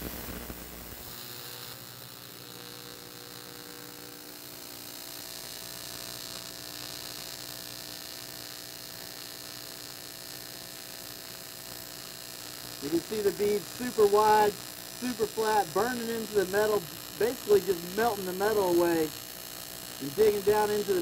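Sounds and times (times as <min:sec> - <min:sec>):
welding arc buzzing and hissing: 0:00.0 - 0:21.0.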